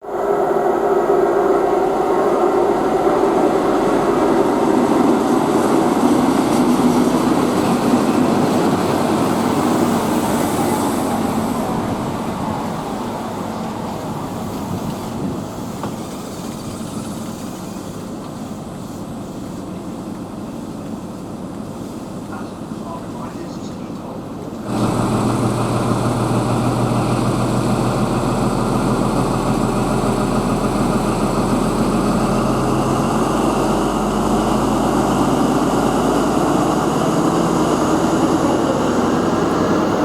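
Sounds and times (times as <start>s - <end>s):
train diesel engine droning: 0.0s - 40.0s.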